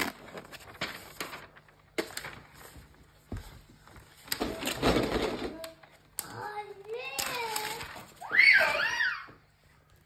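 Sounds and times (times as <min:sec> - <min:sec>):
paper rustling: 0:00.0 - 0:09.0.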